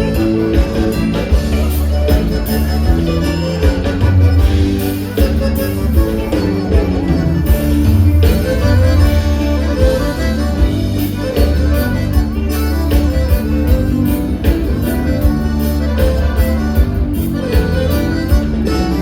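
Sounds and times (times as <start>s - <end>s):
dance band music with accordion: 0.0s - 19.0s
steady percussive beat: 0.0s - 19.0s.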